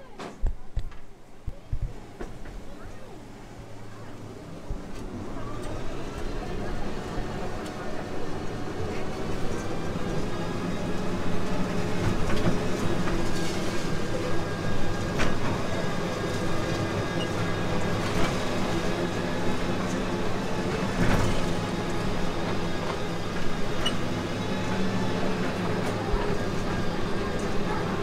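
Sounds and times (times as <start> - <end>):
small train rolling with rattling: 0.0 - 28.0
wheels clicking over track: 4.2 - 28.0.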